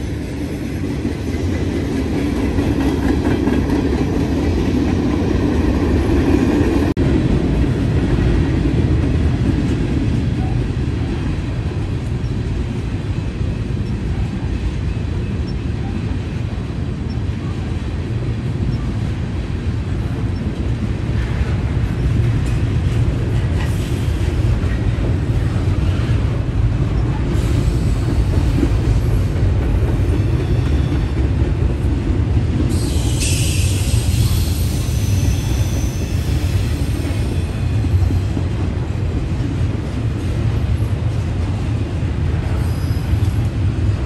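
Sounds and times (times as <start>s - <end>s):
freight train rolling past: 0.0s - 44.0s.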